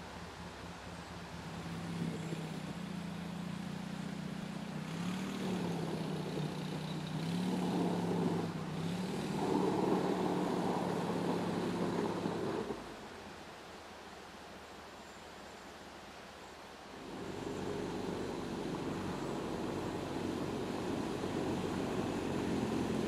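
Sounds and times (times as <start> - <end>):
vehicle engine running: 0.0 - 13.4, 16.9 - 23.0.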